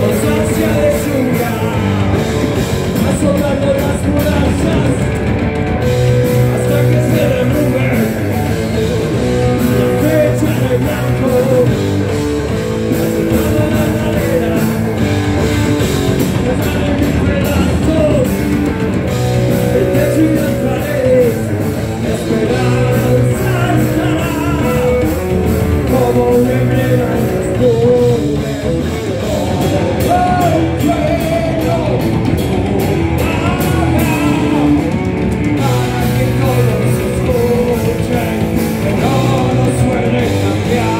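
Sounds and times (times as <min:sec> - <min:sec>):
heavy metal band playing live: 0:00.0 - 0:40.9.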